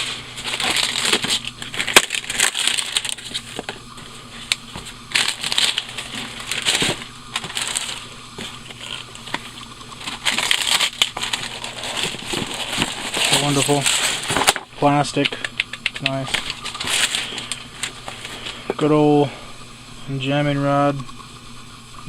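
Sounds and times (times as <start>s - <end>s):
packaging rustling and crinkling: 0.0s - 18.8s.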